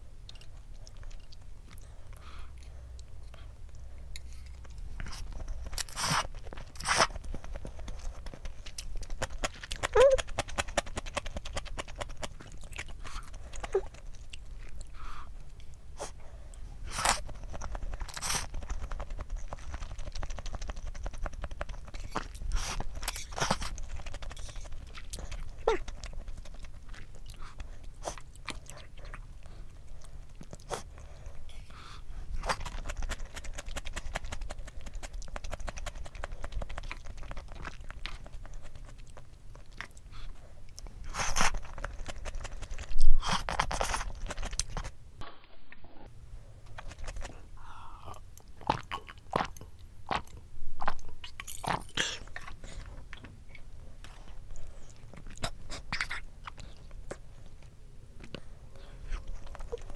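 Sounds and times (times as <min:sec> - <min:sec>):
wet chewing: 0:00.2 - 0:16.2, 0:16.8 - 0:45.0, 0:46.6 - 0:59.9
mouth clicks and smacks: 0:02.6 - 0:15.8, 0:16.9 - 0:29.3, 0:32.4 - 0:45.0, 0:46.6 - 0:47.4, 0:48.0 - 0:59.9.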